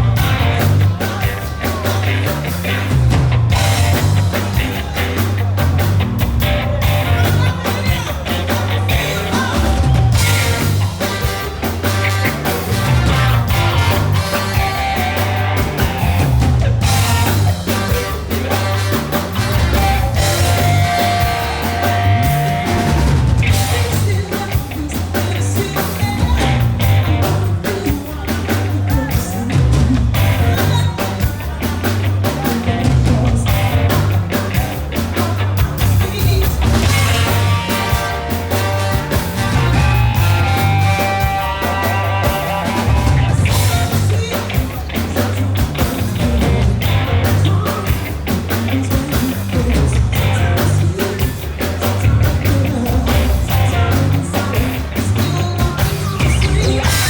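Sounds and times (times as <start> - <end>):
live funk band playing: 0.0 - 57.0
person singing: 0.0 - 57.0.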